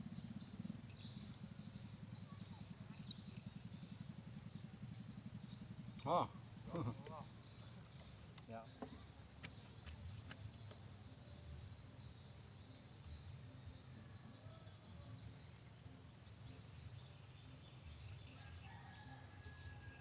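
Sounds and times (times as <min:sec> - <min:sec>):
high-pitched insect drone: 0:00.0 - 0:19.9.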